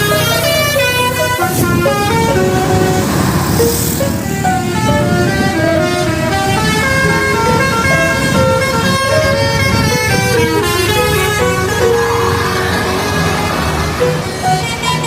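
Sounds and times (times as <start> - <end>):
multi-tone musical horn melody: 0.0 - 15.0.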